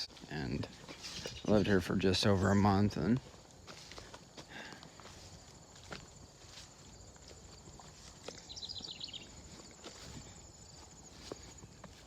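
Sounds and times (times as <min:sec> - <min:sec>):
faint footsteps: 0:00.0 - 0:12.0.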